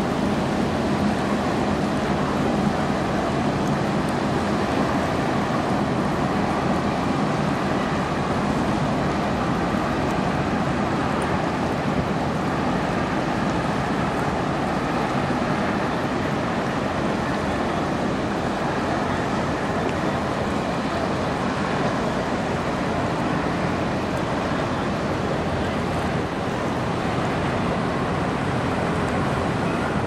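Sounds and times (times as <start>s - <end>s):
low ship drone: 0.0s - 30.0s
water pouring from ship's side: 0.0s - 30.0s
water rushing along ship hull: 0.0s - 30.0s.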